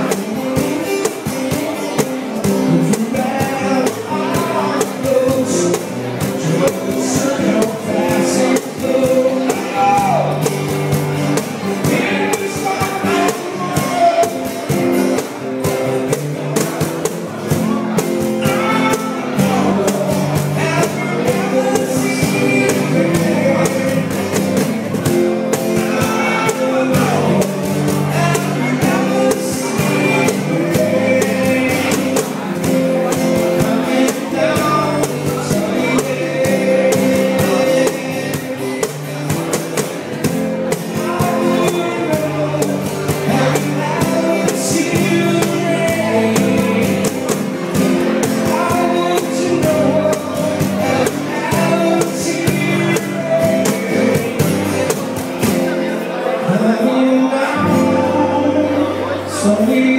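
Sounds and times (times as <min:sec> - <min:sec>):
acoustic guitar strumming: 0:00.0 - 0:59.9
man singing into microphone: 0:00.0 - 0:59.9.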